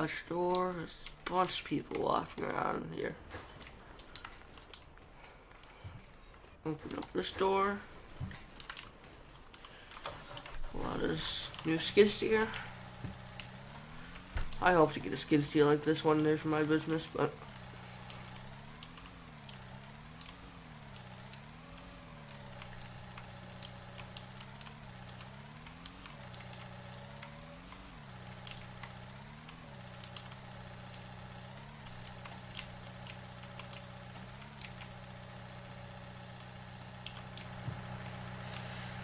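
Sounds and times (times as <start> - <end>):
sharp clicks and rattles: 0.0 - 39.0
skid steer diesel engine: 0.0 - 39.0.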